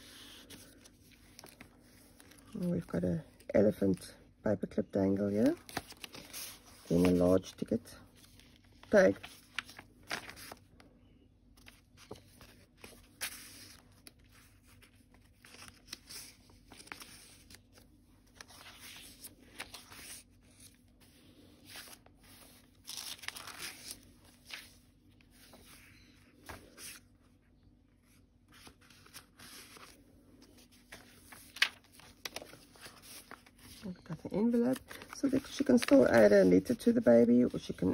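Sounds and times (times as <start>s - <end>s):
paper rustling and crinkling: 0.0s - 4.0s, 5.2s - 10.8s, 11.6s - 37.9s.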